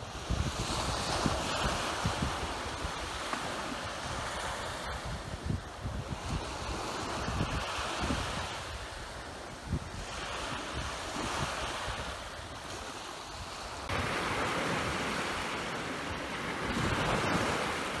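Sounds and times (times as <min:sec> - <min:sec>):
sea waves washing onto beach: 0:00.0 - 0:18.0
wind buffeting microphone: 0:00.0 - 0:18.0.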